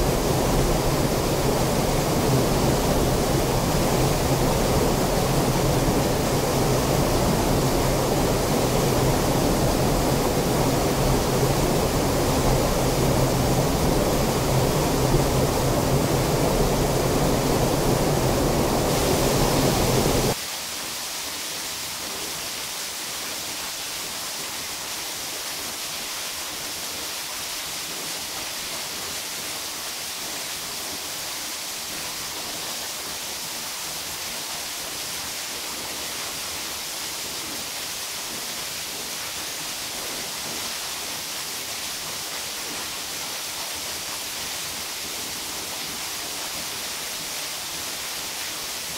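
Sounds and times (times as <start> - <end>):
waterfall rushing into pool: 0.0 - 48.9.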